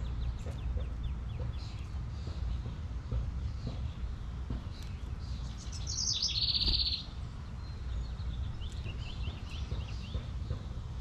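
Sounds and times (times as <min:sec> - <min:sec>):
small songbirds chirping: 0:00.0 - 0:11.0.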